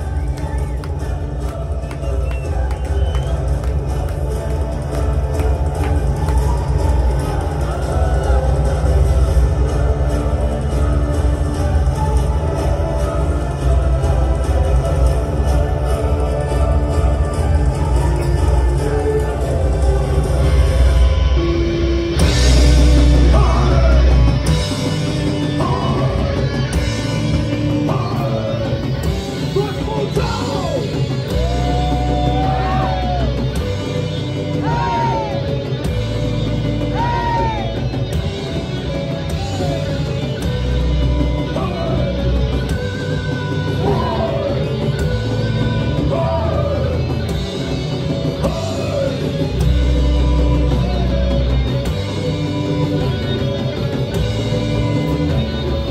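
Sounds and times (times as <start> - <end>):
heavy metal band playing live: 0.0 - 55.9.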